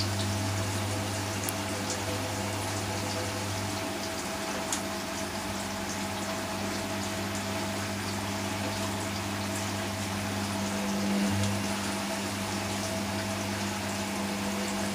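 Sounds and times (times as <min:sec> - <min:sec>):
motor hum: 0:00.0 - 0:14.9
water sloshing in washing machine: 0:00.0 - 0:14.9.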